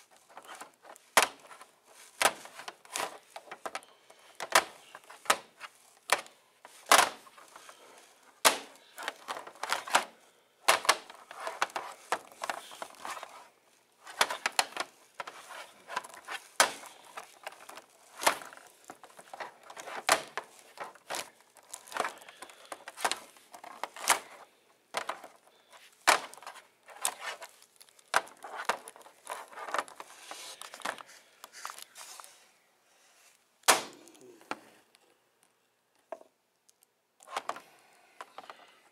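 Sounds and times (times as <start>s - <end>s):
plastic figures clacking together: 0.0s - 7.8s, 8.4s - 31.9s
cloth gloves rustling: 0.0s - 34.0s.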